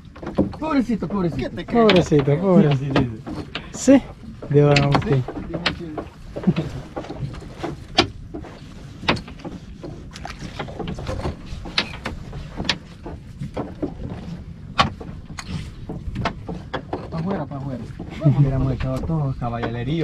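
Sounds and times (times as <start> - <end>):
net knocking against boat hull: 0.1 - 20.0.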